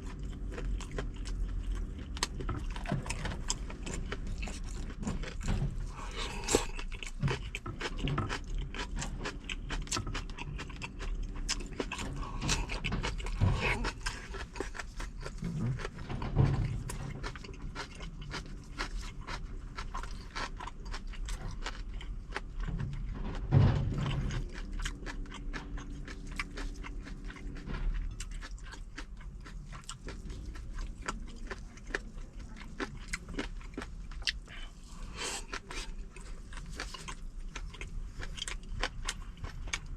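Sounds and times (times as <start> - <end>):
low hum: 0.0 - 39.9
person chewing and crunching food: 0.0 - 39.9.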